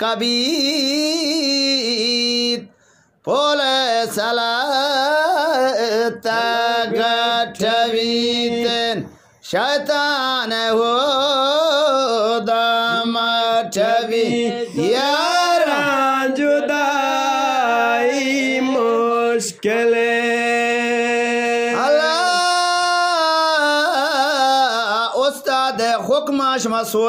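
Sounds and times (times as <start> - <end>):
man singing wordless chant: 0.0 - 27.0.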